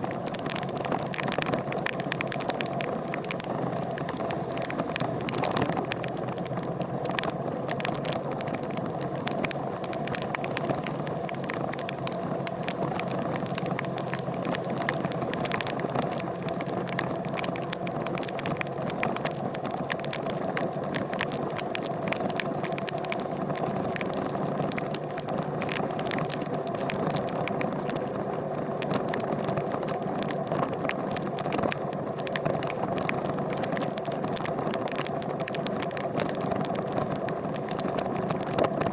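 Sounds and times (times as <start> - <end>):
sharp clicks: 0.1 - 38.9.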